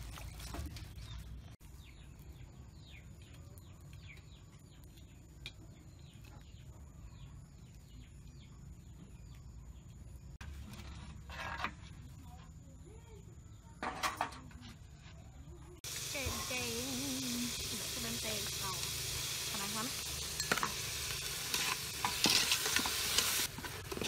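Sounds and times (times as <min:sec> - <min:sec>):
small birds chirping: 0:00.2 - 0:11.0, 0:11.8 - 0:13.8, 0:14.4 - 0:23.5.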